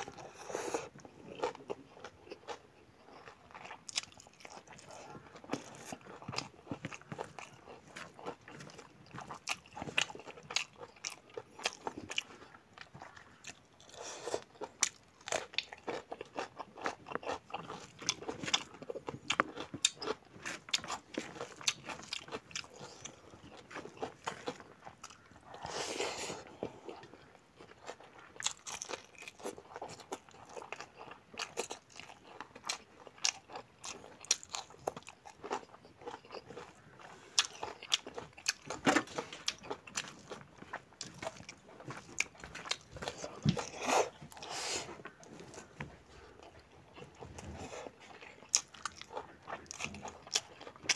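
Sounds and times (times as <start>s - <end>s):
wet chewing with crunching: 0.0s - 50.9s.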